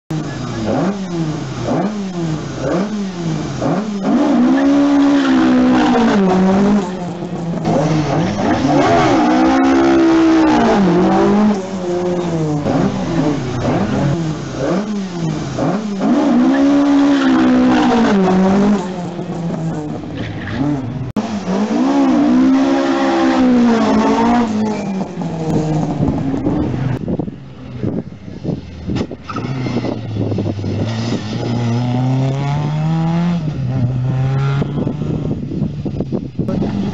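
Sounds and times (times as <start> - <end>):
rally car engines revving: 0.1 - 36.9.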